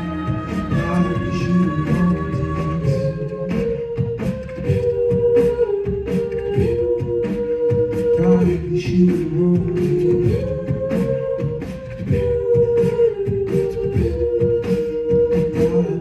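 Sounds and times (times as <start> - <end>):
a cappella group singing chords: 0.0 - 16.0
beatboxed rhythm: 0.0 - 16.0.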